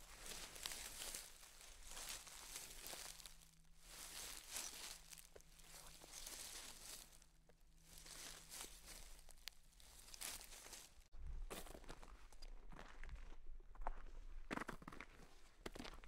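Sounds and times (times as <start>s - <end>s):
crunching footsteps on trail: 0.0s - 16.0s.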